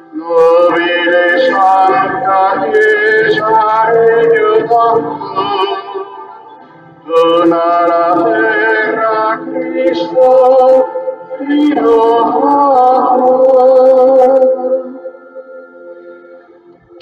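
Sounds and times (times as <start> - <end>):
voices singing a hymn: 0.1 - 6.4, 7.0 - 15.0.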